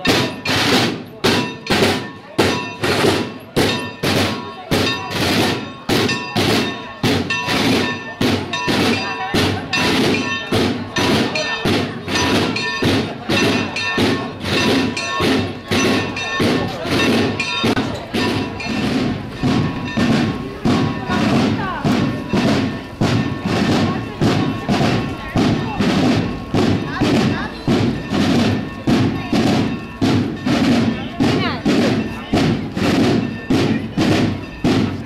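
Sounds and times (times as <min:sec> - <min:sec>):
church bell ringing: 0:00.0 - 0:35.0.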